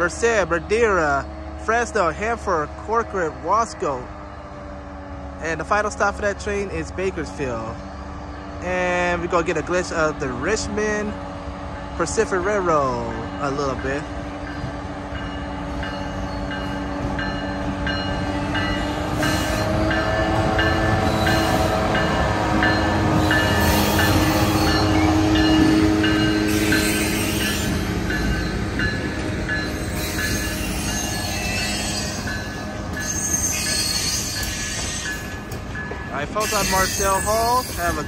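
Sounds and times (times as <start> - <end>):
diesel locomotive engines droning: 0.0 - 38.0.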